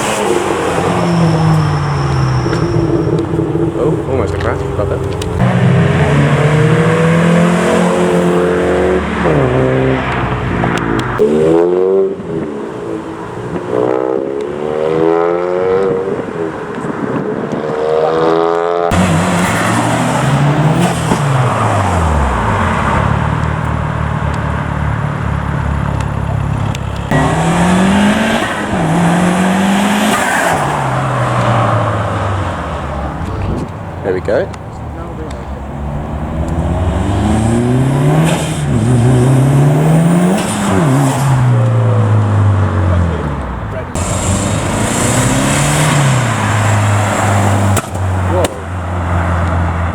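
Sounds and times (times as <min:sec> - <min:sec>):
car engines revving: 0:00.0 - 0:49.9.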